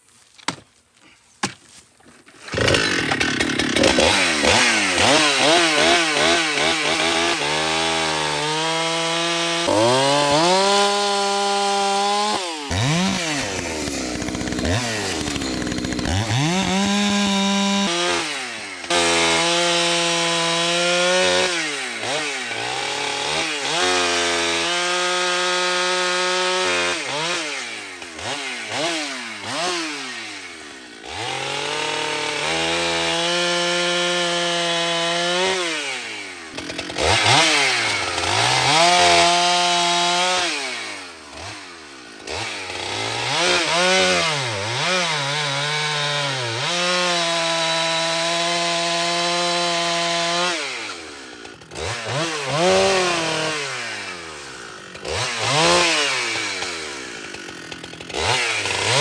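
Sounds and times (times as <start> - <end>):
chainsaw cutting wood: 0.4 - 59.0.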